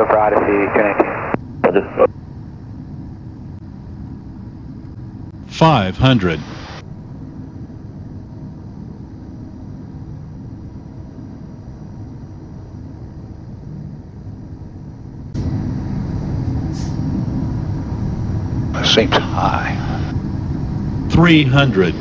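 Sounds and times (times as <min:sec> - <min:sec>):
faint steady hum: 0:00.0 - 0:22.0
jet cockpit rumble: 0:00.0 - 0:22.0.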